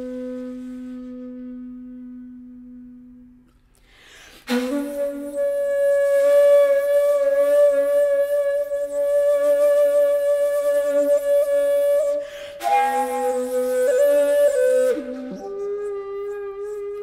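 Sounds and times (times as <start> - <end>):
flute notes: 0.0 - 17.0.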